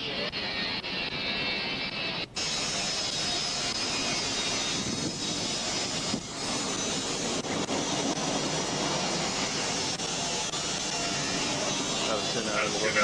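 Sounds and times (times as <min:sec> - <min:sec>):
loud rushing noise: 0:00.3 - 0:13.0.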